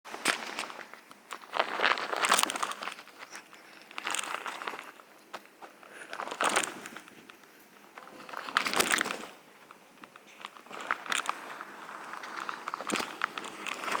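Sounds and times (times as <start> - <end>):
footsteps crunching on dry ground: 0.1 - 14.0.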